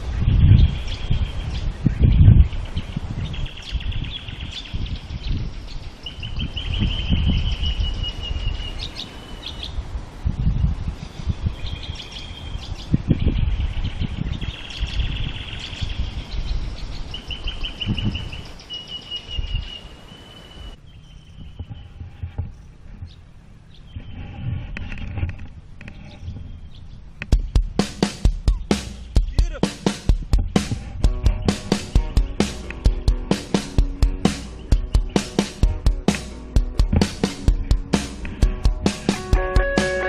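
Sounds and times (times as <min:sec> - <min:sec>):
small birds singing: 0:00.0 - 0:40.0.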